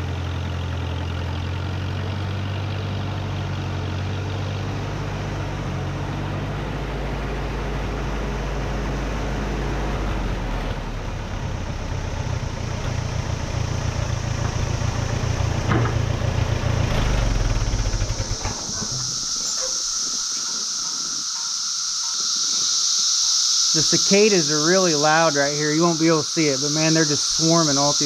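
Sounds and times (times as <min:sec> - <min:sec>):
cicadas buzzing: 0:00.0 - 0:28.0
tractor engine running: 0:00.0 - 0:28.0.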